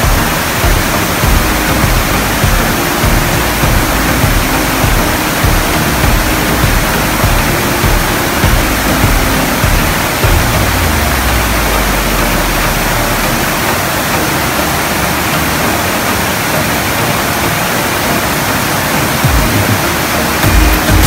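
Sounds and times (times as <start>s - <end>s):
stream water rushing over boulders: 0.0s - 21.0s.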